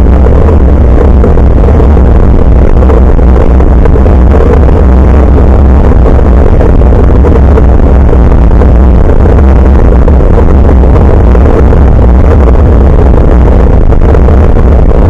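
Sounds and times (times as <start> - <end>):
bicycle road noise: 0.0 - 15.0
wind rumble: 0.0 - 15.0.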